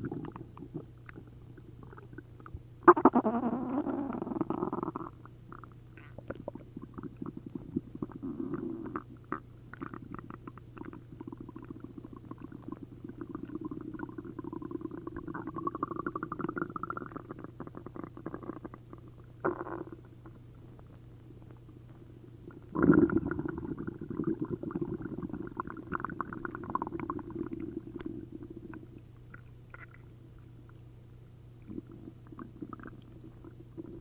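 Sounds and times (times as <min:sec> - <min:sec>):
stomach gurgling and bubbling: 0:00.0 - 0:30.1, 0:31.6 - 0:34.0.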